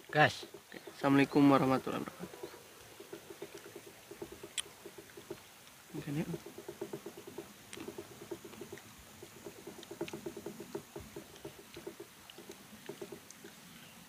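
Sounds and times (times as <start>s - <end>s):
faint clicks: 0.0s - 14.0s
low pulsed animal calls: 0.0s - 14.0s.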